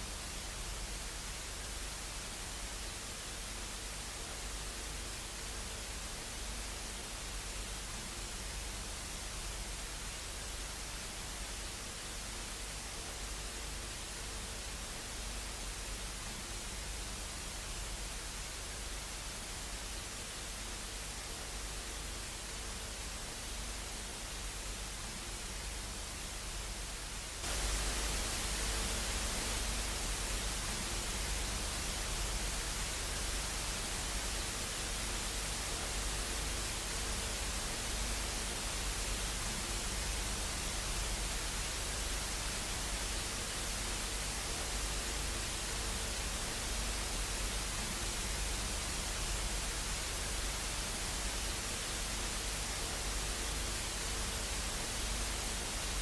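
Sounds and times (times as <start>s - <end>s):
broadcast static hiss: 0.0s - 56.0s.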